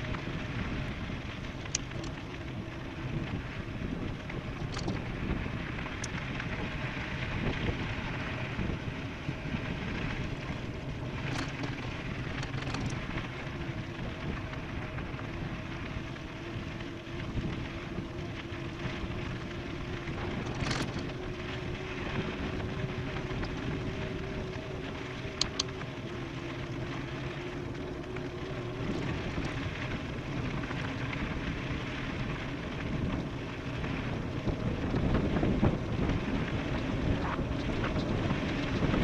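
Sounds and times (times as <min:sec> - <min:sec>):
faint steady hum: 0:00.0 - 0:39.0
wind rushing over microphone: 0:00.0 - 0:39.0.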